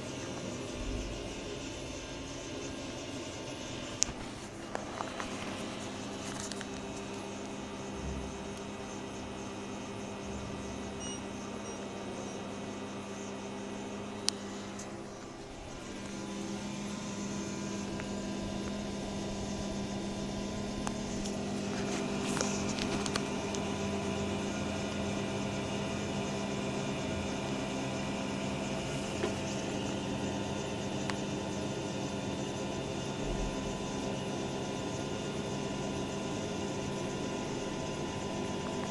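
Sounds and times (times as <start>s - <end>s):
printer motors and fans humming: 0.0s - 38.9s.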